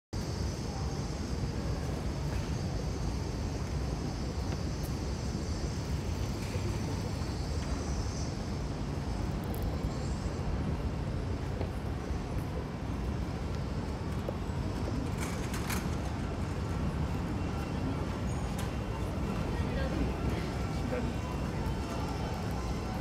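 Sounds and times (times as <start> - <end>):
low street rumble: 0.2 - 23.0.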